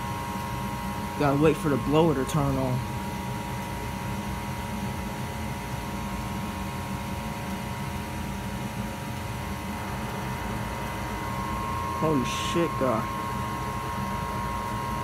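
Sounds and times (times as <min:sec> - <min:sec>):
inducer motor humming: 0:00.0 - 0:15.0.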